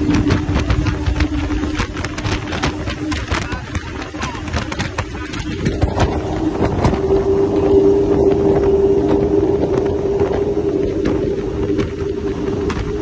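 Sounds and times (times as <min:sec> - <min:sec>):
outboard engines high-pitched drone: 0:00.0 - 0:13.0
water noise: 0:00.0 - 0:13.0
wind noise: 0:00.0 - 0:13.0.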